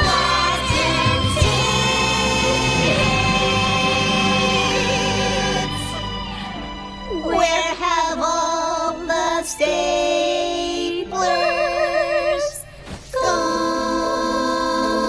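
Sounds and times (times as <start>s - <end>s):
music: 0.0s - 15.0s
voices singing held notes: 0.0s - 15.0s.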